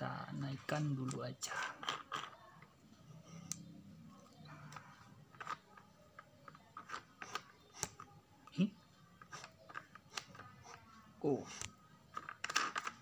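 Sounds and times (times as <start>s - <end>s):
faint low hum: 2.3s - 13.0s.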